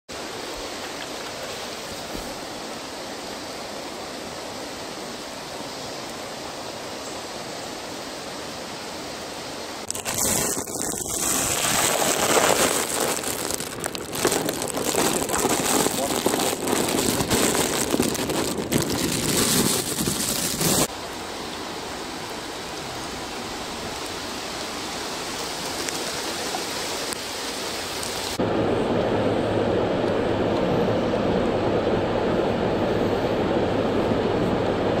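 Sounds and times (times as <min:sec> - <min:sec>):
fast-flowing floodwater rushing: 0:00.2 - 0:28.4
rain falling on water: 0:00.2 - 0:29.2.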